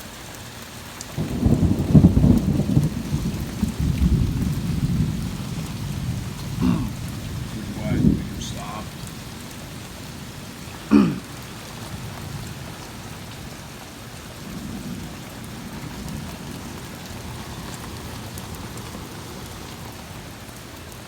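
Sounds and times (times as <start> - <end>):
heavy rain falling: 0.0 - 21.0
low thunder rumble: 1.2 - 19.4.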